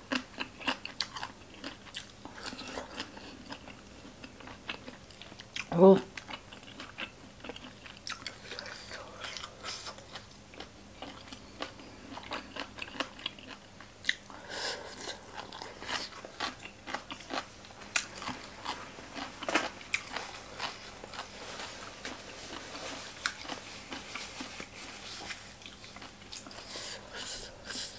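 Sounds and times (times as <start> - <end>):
crisp crunching while chewing: 0.1 - 14.3, 15.0 - 26.7.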